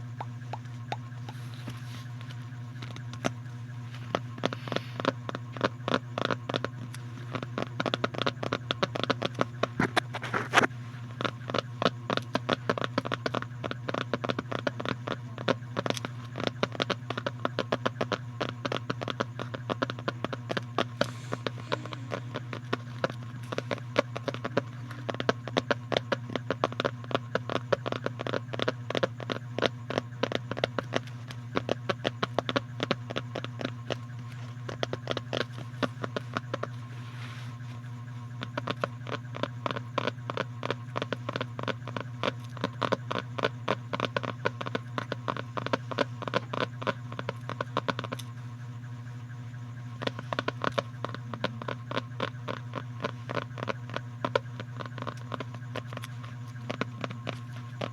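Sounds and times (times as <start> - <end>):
low hum: 0.0 - 57.9
tapping and scratching: 0.0 - 57.9.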